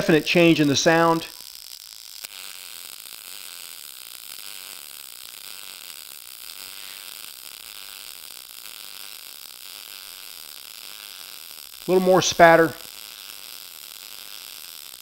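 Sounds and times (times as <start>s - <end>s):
welding arc buzzing: 0.0s - 15.0s.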